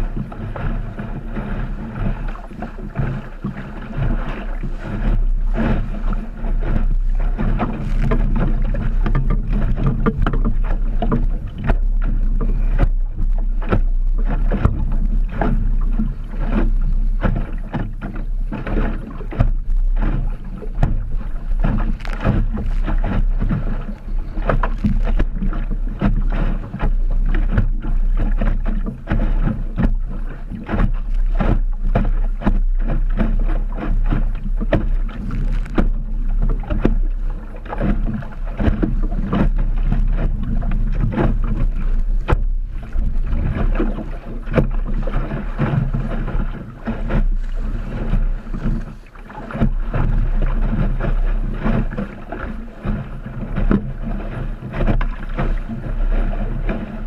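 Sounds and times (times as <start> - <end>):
water splashing against hull: 0.0 - 57.0
wind buffeting microphone: 0.0 - 57.0.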